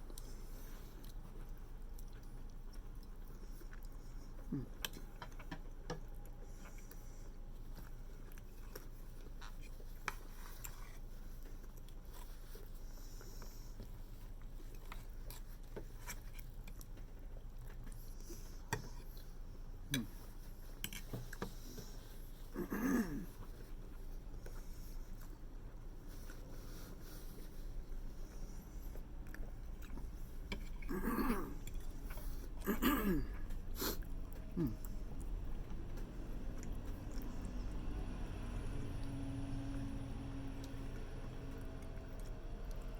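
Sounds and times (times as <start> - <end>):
quiet chewing: 0.0 - 42.9
steady low hum: 0.0 - 42.9.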